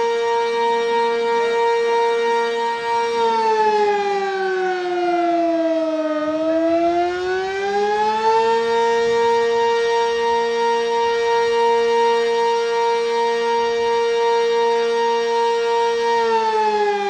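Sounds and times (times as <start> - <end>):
dual-tone warning siren: 0.0 - 17.0.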